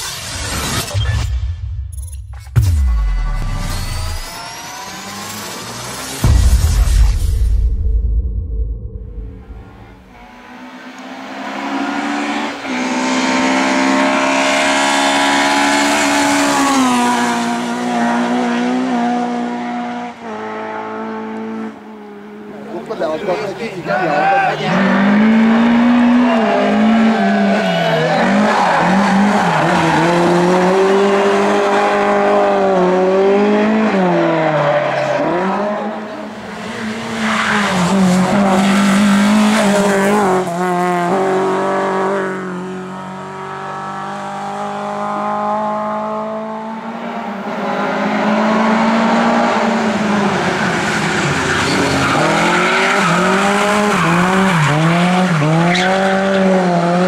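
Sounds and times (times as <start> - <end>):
race car engine revving: 9.1 - 22.8, 24.5 - 57.0.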